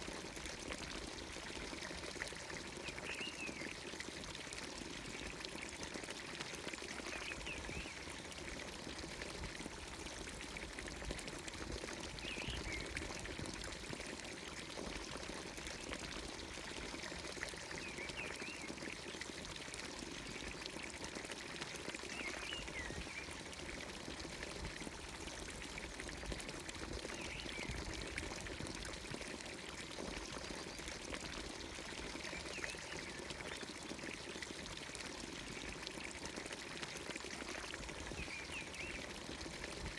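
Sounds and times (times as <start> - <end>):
water pouring into trough: 0.0 - 39.9.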